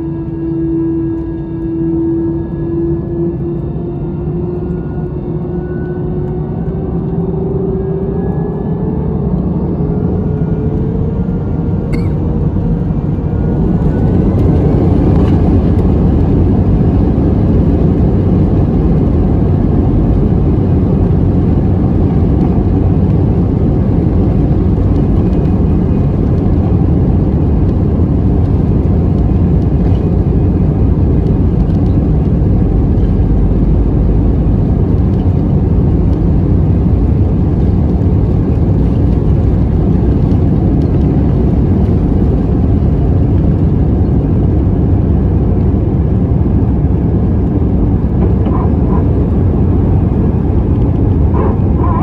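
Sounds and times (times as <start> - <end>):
jet engines rumbling in cabin: 0.0 - 52.0.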